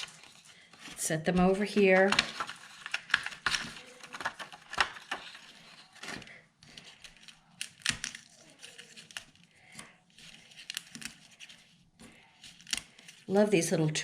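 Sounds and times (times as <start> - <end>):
paper rustling: 0.0 - 13.3.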